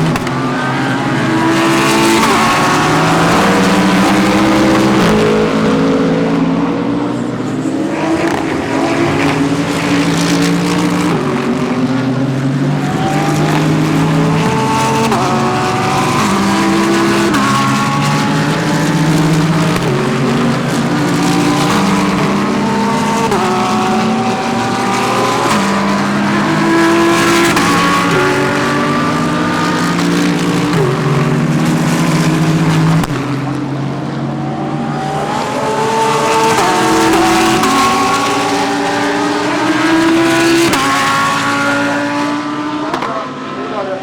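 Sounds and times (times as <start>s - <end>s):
race car engines with gear changes: 0.0s - 44.0s.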